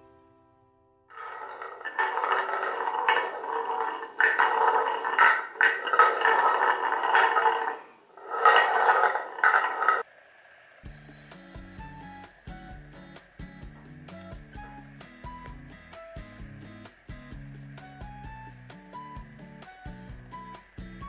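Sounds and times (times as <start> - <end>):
ball rolling with ringing tone: 1.1 - 10.1, 11.8 - 21.0.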